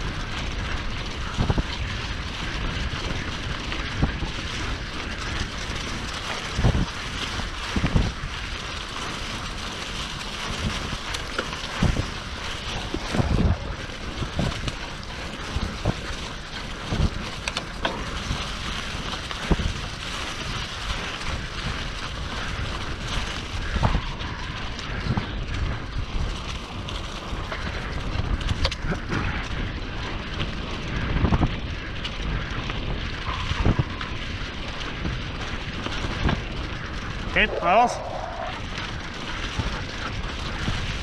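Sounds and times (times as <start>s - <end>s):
bike knocking and rattling: 0.0s - 41.0s
bike tyres rolling: 0.0s - 41.0s
wind rush on microphone: 0.0s - 41.0s.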